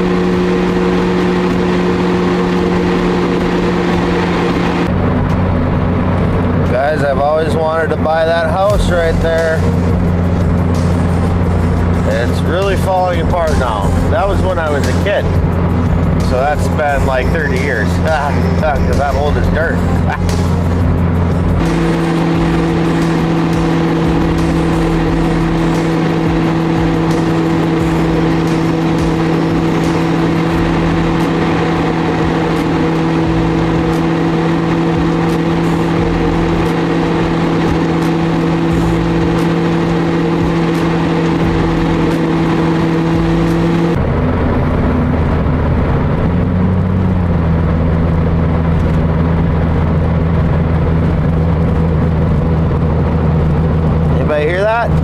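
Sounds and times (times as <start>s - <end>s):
car engine and road noise: 0.0s - 55.0s
strong even hum: 0.0s - 55.0s.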